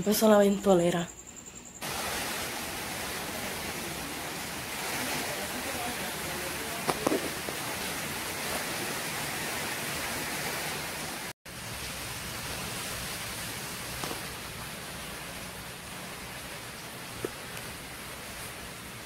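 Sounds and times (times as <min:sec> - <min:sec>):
wind: 0:00.0 - 0:19.0
heavy rain hissing: 0:01.8 - 0:19.0.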